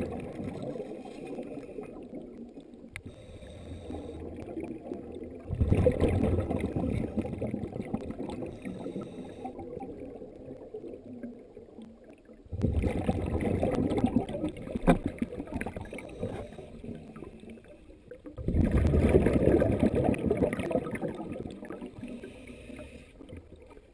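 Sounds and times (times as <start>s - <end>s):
exhaled air bubbling underwater: 0.0s - 23.9s.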